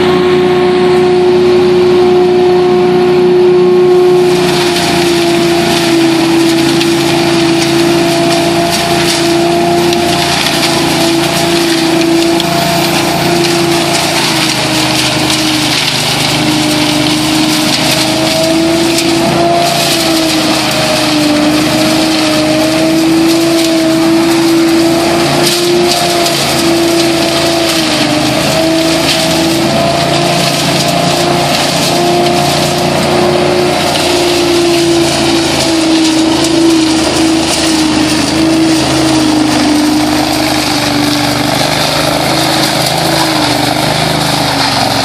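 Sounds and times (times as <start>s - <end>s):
debris loader engine whine: 0.0s - 45.0s
air and leaves rushing: 3.9s - 45.0s.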